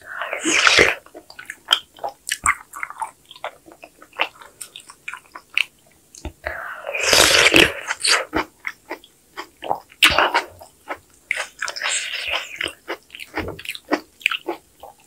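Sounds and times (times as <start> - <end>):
wet chewing: 0.3 - 6.4, 7.1 - 15.0.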